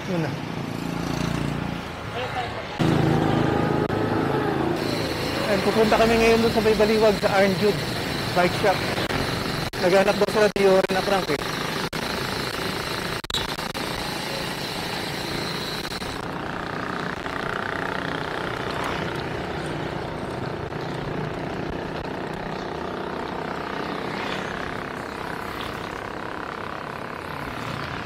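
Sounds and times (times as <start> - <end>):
road noise from bicycle: 0.0 - 28.0.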